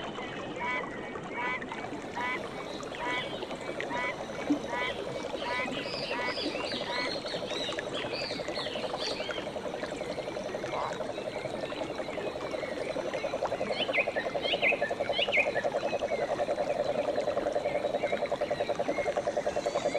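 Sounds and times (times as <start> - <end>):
frogs trilling chorus: 0.6 - 19.9.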